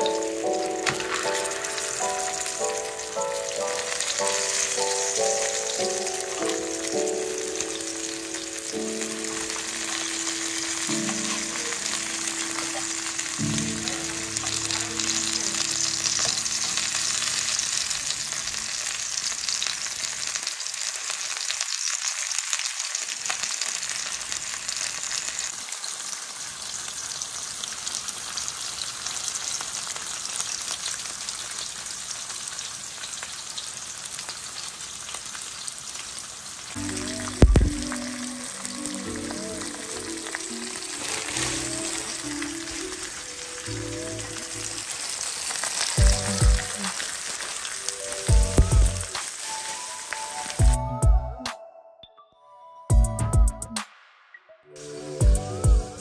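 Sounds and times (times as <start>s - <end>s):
food sizzling in hot oil: 0.0s - 50.8s.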